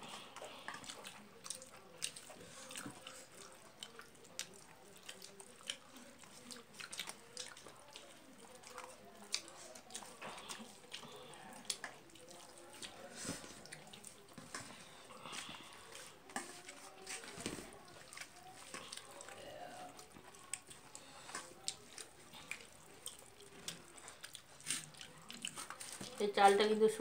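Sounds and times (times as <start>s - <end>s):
person chewing: 0.0s - 26.2s
fingers mixing rice on steel plate: 0.0s - 26.6s.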